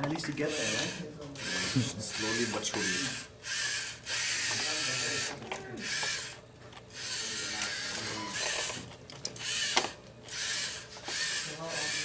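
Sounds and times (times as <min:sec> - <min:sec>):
robot servo motors whirring: 0:00.4 - 0:06.4, 0:07.0 - 0:12.0.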